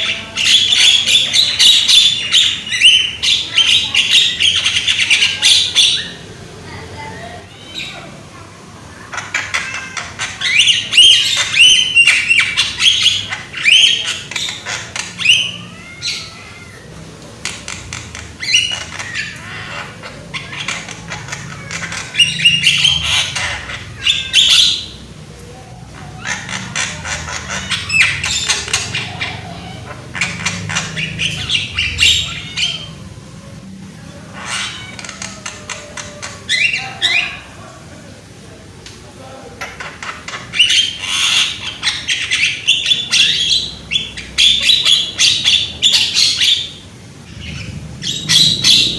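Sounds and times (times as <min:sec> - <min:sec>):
myna bird chattering and squawking: 0:00.0 - 0:38.4, 0:39.3 - 0:48.9.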